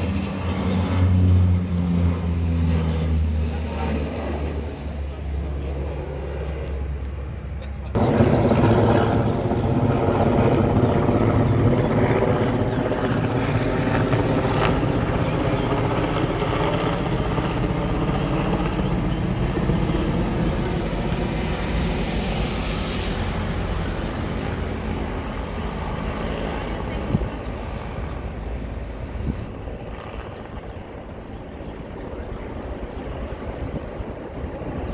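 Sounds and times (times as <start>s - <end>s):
helicopter flying overhead: 0.0s - 34.9s.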